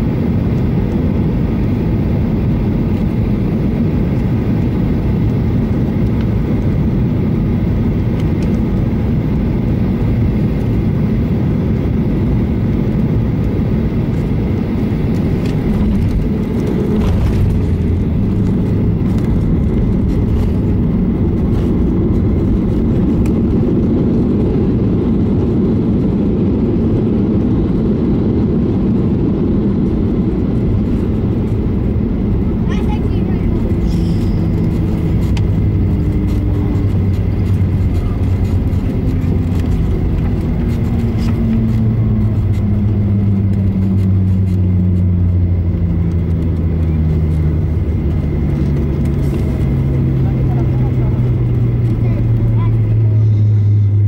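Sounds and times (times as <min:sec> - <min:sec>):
aircraft cabin engine rush: 0:00.0 - 0:54.0
low rumble with rattles: 0:00.0 - 0:54.0.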